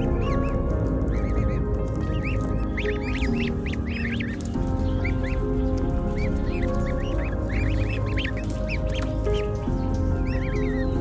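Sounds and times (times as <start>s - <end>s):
background music with sustained tones: 0.0s - 11.0s
goslings peeping: 0.0s - 11.0s.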